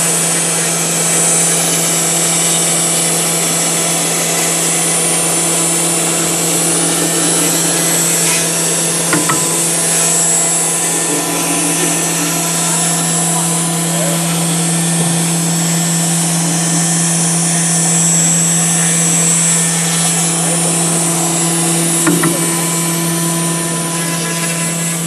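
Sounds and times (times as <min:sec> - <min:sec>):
bit cutting foam hiss: 0:00.0 - 0:25.0
router spindle humming: 0:00.0 - 0:25.0.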